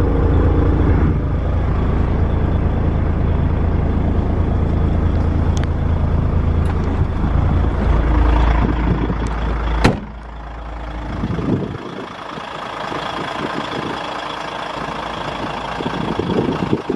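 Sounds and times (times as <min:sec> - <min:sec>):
diesel truck engine idling: 0:00.0 - 0:16.9.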